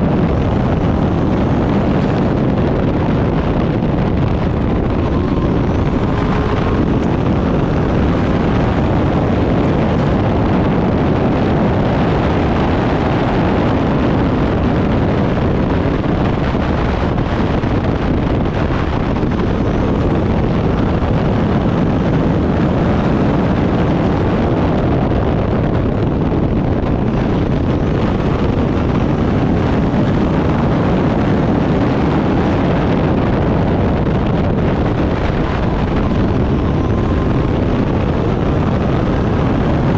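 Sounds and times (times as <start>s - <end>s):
race car engine: 0.0s - 39.9s
wind buffeting microphone: 0.0s - 39.9s.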